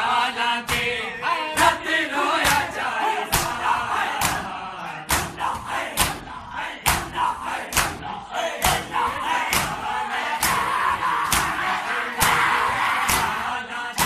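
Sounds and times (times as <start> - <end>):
men shouting and chanting: 0.0 - 14.0
men slapping chests in unison: 0.6 - 14.0.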